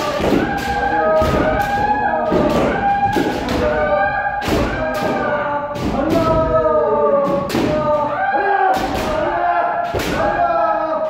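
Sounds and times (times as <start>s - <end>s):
voices shouting: 0.0s - 11.0s.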